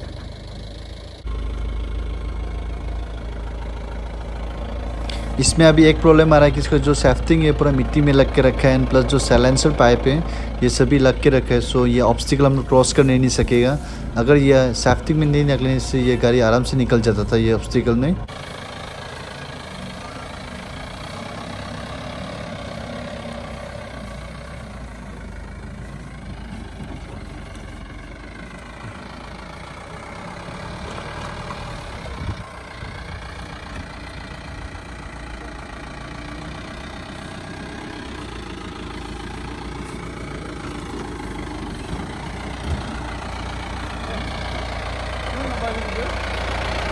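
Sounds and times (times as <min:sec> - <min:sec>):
truck engine at low revs: 0:00.0 - 0:46.9.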